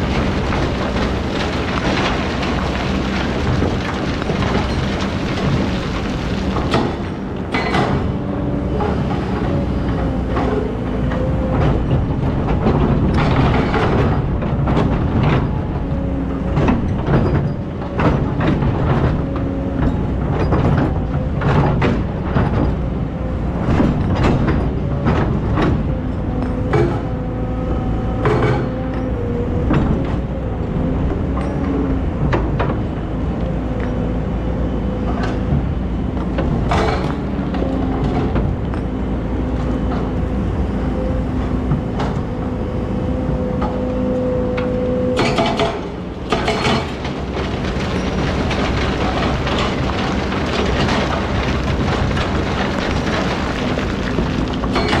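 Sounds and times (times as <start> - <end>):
metal clanks and knocks: 0.0 - 34.1, 35.0 - 40.4, 44.6 - 55.0
excavator diesel engine running: 0.0 - 55.0.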